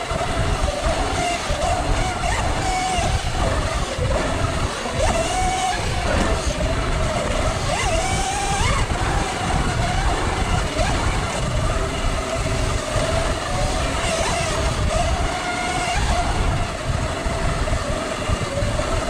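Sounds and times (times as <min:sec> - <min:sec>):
electric motor whining: 0:00.0 - 0:19.0
wind rumble on microphone: 0:00.0 - 0:19.0.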